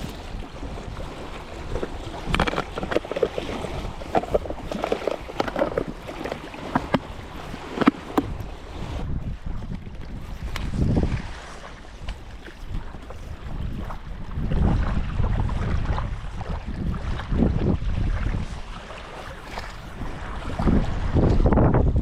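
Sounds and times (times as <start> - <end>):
water sloshing and splashing: 0.0 - 22.0
wind noise on microphone: 0.0 - 22.0.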